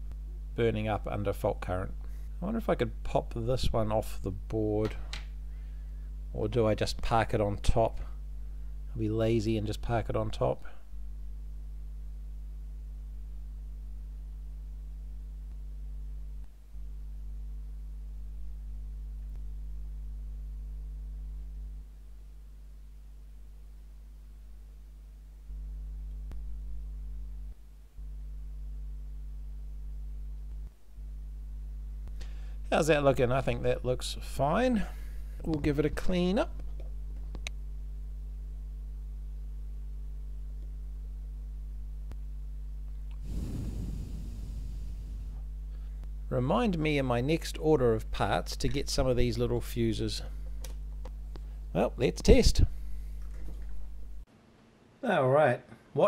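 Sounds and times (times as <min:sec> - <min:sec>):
low electrical mains hum: 0:00.0 - 0:56.0.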